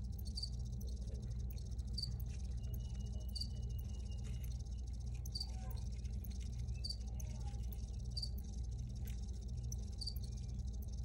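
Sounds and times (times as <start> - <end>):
crickets chirping: 0.0 - 11.0
steady low rumble: 0.0 - 11.0.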